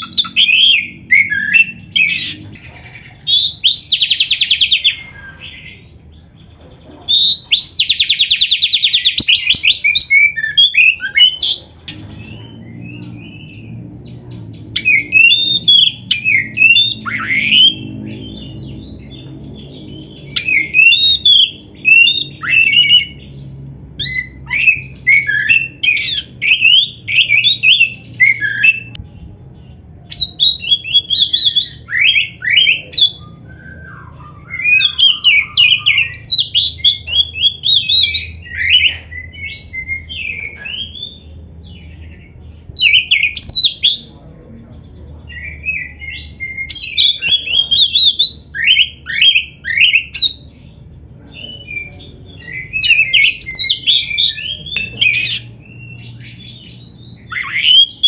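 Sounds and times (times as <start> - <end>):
bird singing varied song: 0.0 - 58.0.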